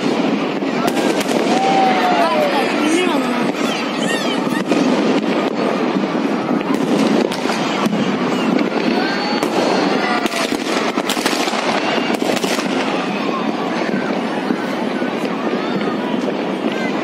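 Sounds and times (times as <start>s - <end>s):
firecrackers crackling: 0.0s - 17.0s
fireworks bangs: 0.0s - 17.0s
whistling fireworks: 0.0s - 17.0s.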